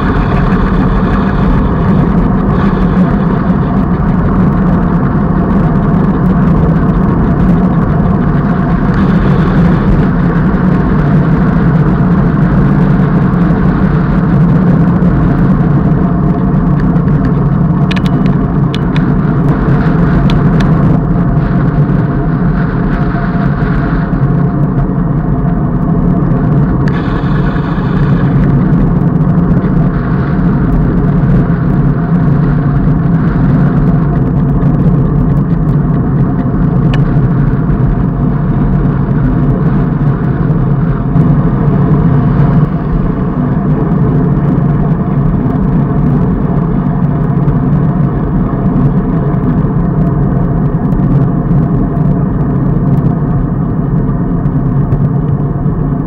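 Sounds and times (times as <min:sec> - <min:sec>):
bicycle tyres on tarmac: 0:00.0 - 0:56.0
wind rush on microphone: 0:00.0 - 0:56.0.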